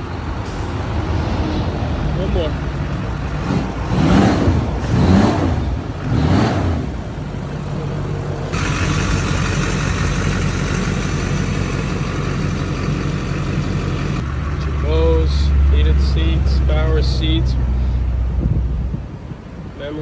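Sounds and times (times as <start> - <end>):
diesel truck engine idling: 0.0 - 6.2, 6.9 - 19.1.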